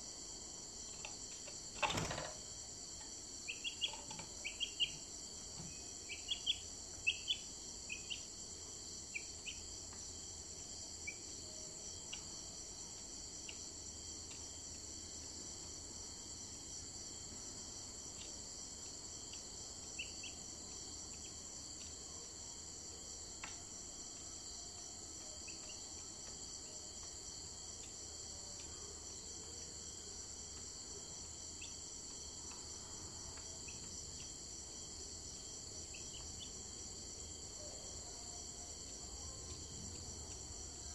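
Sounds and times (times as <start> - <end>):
crickets chirping chorus: 0.0 - 40.9.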